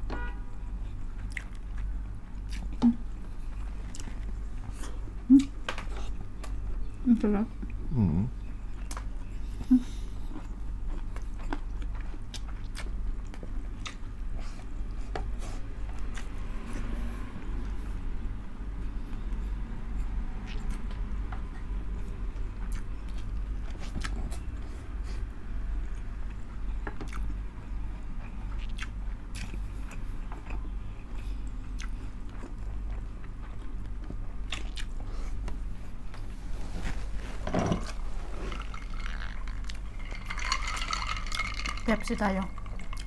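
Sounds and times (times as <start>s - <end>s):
steady low hum: 0.0s - 43.0s
chewing and mouth sounds: 1.2s - 7.9s, 8.7s - 17.9s, 20.0s - 36.3s, 37.8s - 43.0s.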